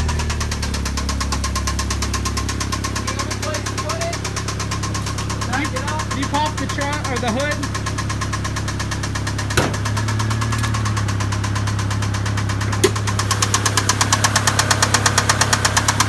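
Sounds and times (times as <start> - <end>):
engine with rod knock: 0.0 - 16.0.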